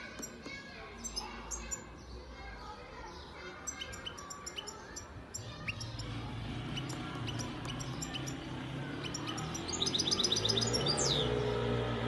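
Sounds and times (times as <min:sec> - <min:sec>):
finch singing high chirps: 0:00.1 - 0:02.2, 0:03.0 - 0:11.5.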